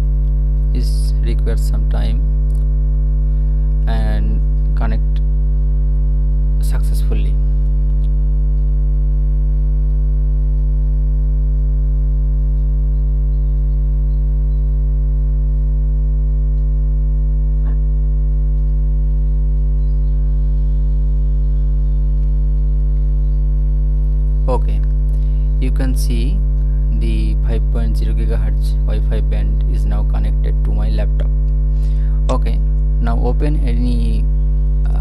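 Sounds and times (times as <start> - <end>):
low electrical mains hum: 0.0 - 35.0.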